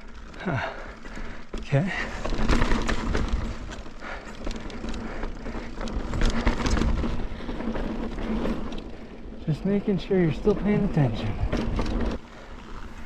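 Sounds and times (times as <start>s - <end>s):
bike knocking and rattling: 0.0s - 13.0s.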